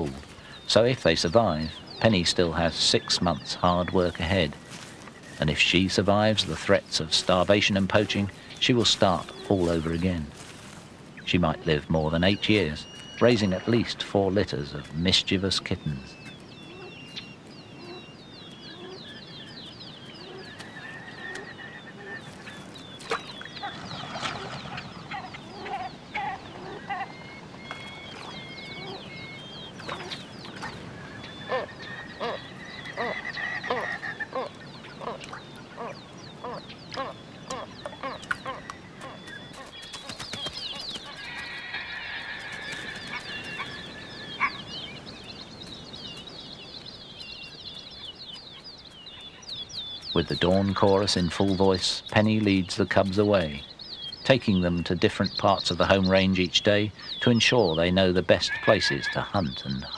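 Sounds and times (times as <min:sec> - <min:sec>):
birds singing and calling: 0:00.0 - 0:59.9.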